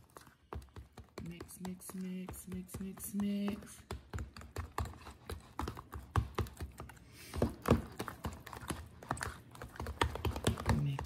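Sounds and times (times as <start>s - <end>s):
fork stirring in plastic tub: 0.0s - 11.0s.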